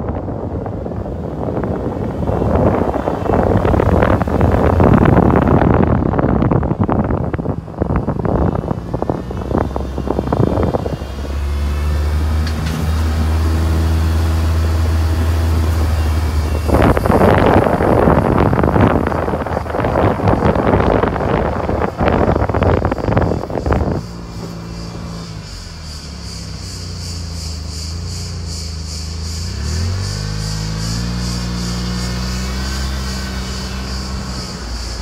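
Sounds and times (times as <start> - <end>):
car engine humming: 0.0 - 35.0
wind buffeting microphone: 0.0 - 35.0.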